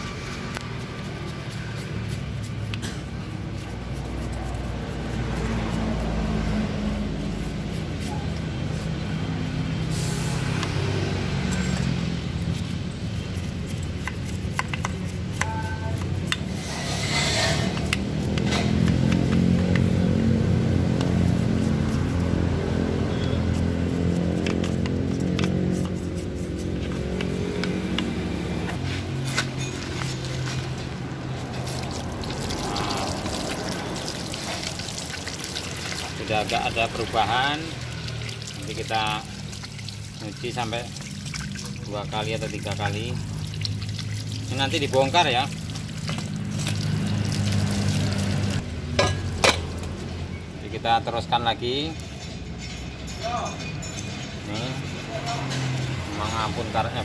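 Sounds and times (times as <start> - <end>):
brush scrubbing engine case: 0.0 - 52.5, 54.0 - 57.0.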